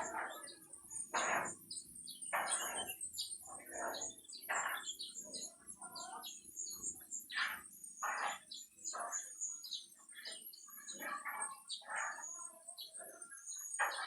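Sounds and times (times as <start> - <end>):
birds squawking: 0.0 - 14.0
high-pitched bird twittering: 0.0 - 14.0.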